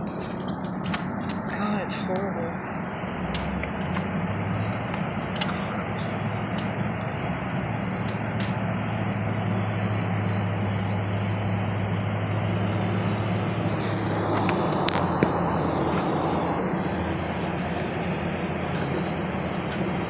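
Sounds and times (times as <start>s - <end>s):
road noise: 0.0s - 20.0s
truck engine hum: 0.0s - 20.0s.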